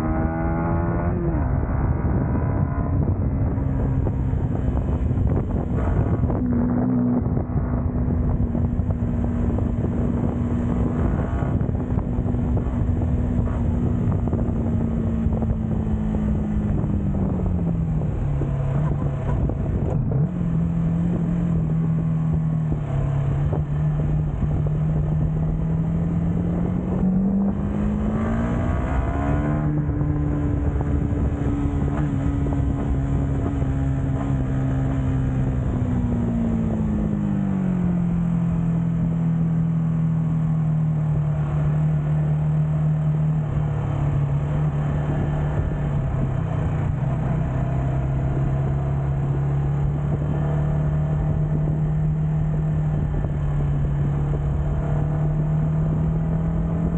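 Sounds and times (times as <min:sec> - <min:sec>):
motorcycle engine and exhaust: 0:00.0 - 0:56.9.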